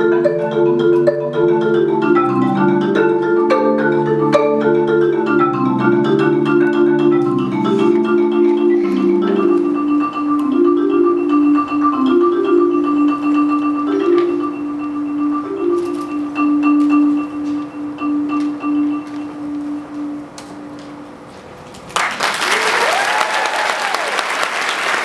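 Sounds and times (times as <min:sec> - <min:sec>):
low marimba bass notes: 0:00.0 - 0:20.7
marimba rippling patterns: 0:00.0 - 0:21.2.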